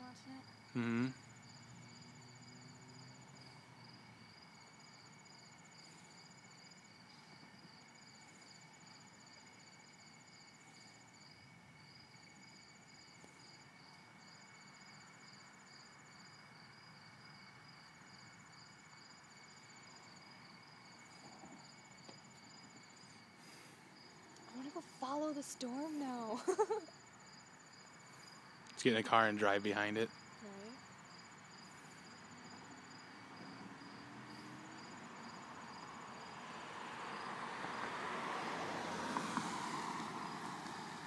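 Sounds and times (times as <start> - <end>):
high insect trill: 0.0 - 41.0
night insects chirping: 0.0 - 41.0
pulsing cricket chirp: 0.0 - 41.0.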